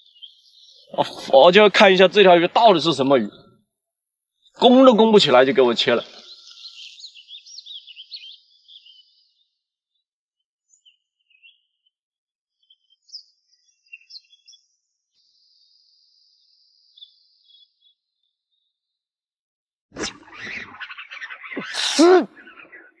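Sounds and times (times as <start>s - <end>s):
high-pitched birdsong: 0.0s - 3.5s, 4.4s - 9.7s, 10.6s - 18.7s, 20.0s - 23.0s.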